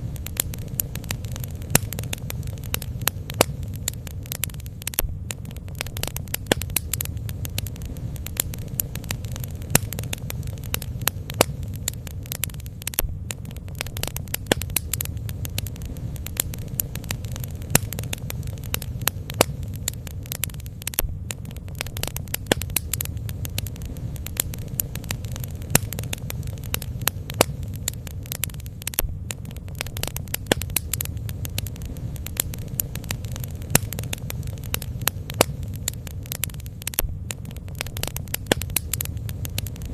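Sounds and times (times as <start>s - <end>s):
bonfire crackling and popping: 0.0s - 39.9s
fire low rumble: 0.0s - 39.9s.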